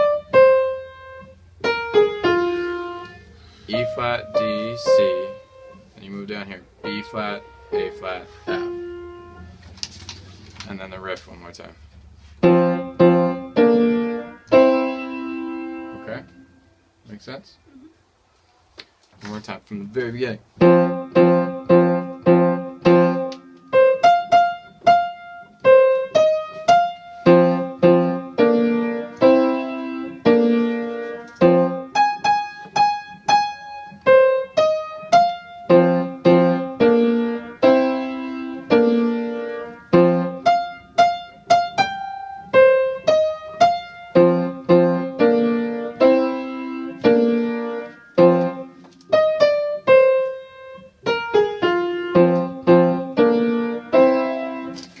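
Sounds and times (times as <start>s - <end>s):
electric piano chords and riff: 0.0s - 9.6s, 12.4s - 16.5s, 20.6s - 55.0s.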